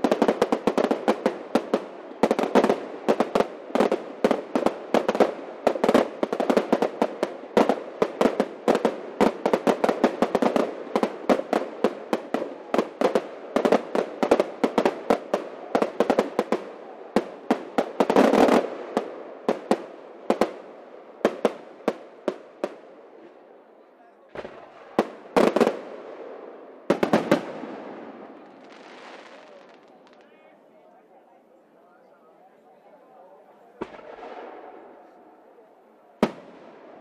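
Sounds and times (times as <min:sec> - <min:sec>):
fireworks crackle: 0:00.0 - 0:23.3, 0:24.2 - 0:26.2, 0:26.8 - 0:30.5, 0:33.7 - 0:35.5
fireworks bangs: 0:00.0 - 0:23.4, 0:24.3 - 0:30.4, 0:33.6 - 0:37.0.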